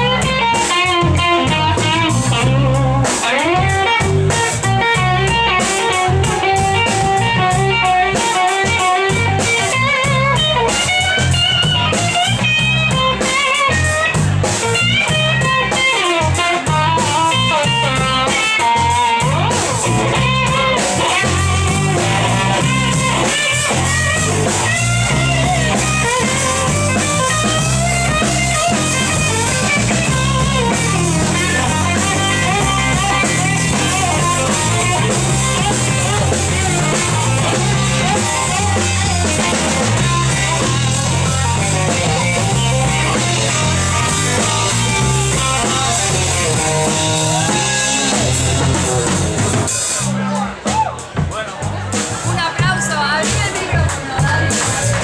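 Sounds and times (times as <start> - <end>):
electric guitar lead bending notes: 0.0 - 50.8, 51.8 - 55.0
rock band playing: 0.0 - 55.0.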